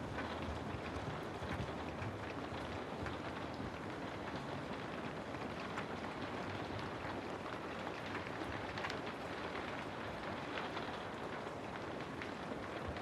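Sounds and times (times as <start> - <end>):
raindrops pattering: 0.0 - 13.0
steady rain hissing: 0.0 - 13.0.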